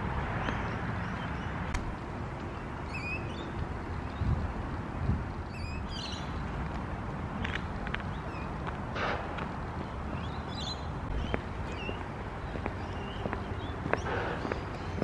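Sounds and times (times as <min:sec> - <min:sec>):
birds chirping: 0:00.0 - 0:06.6, 0:07.4 - 0:15.0
steady low rumble: 0:00.0 - 0:15.0.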